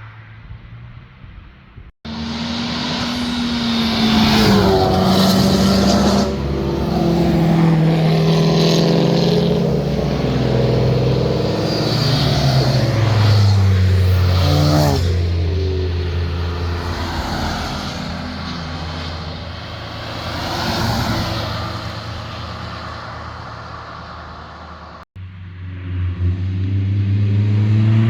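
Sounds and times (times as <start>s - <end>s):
cars passing with engines revving: 0.0s - 28.0s.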